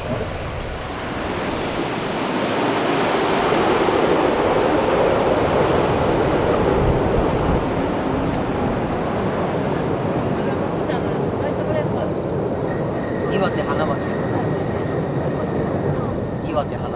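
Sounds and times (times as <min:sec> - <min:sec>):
jet airliner engine roar overhead: 0:00.0 - 0:16.9.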